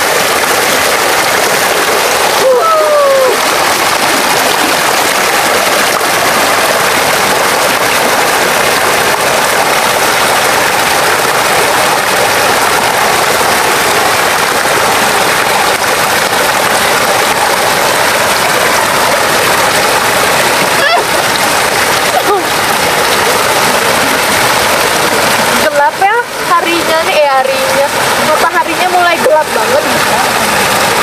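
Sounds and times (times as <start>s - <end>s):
water pouring into pool: 0.0s - 31.0s.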